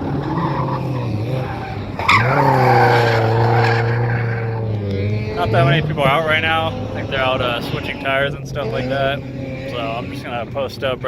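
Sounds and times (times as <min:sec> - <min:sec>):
tyres squealing: 0:00.0 - 0:10.7
car engine revving high: 0:00.0 - 0:11.0.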